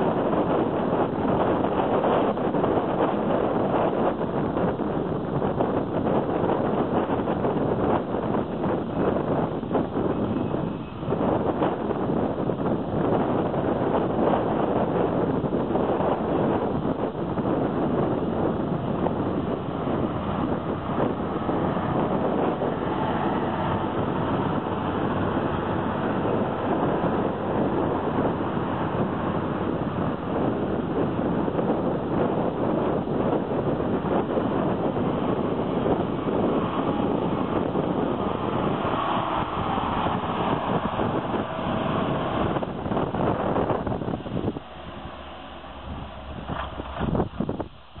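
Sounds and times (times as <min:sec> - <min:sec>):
tractor diesel engines under load: 0:00.0 - 0:48.0.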